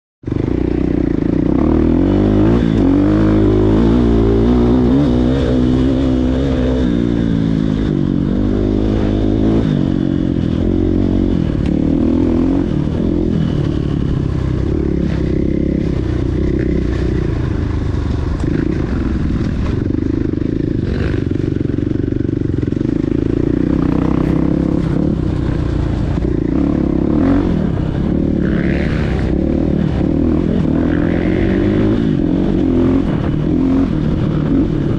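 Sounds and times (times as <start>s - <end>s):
motocross bike engines revving: 0.3s - 17.6s, 18.3s - 34.9s.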